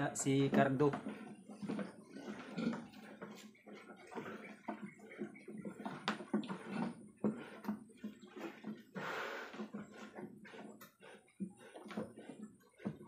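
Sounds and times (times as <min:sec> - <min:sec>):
pigs grunting: 0:00.9 - 0:13.0.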